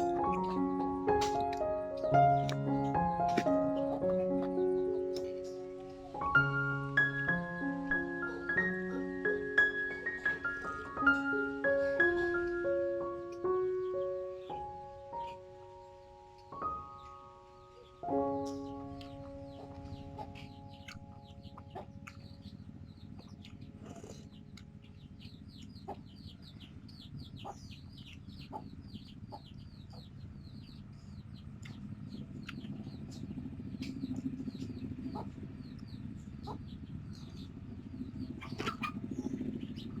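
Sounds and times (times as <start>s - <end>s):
chickens clucking: 0.0s - 30.3s, 31.5s - 40.0s
chicks peeping: 0.0s - 40.0s
low steady rumble: 0.0s - 40.0s.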